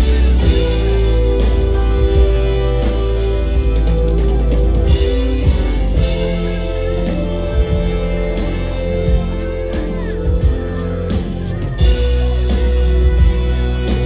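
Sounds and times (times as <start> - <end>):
electric guitar chords: 0.0 - 14.0
heavy bass line: 0.0 - 14.0
keyboard chords: 0.0 - 14.0.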